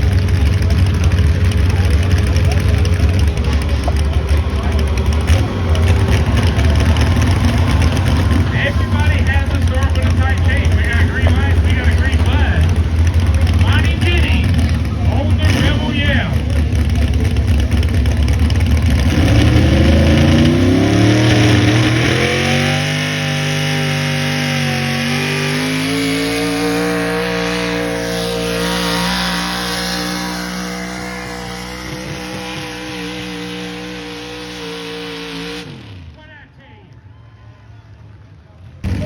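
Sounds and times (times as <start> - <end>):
big engine under full load: 0.0 - 39.0.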